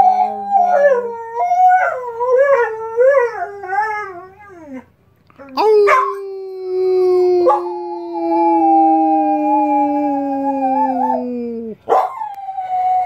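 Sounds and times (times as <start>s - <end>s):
dog howling: 0.0s - 4.9s, 5.5s - 13.0s.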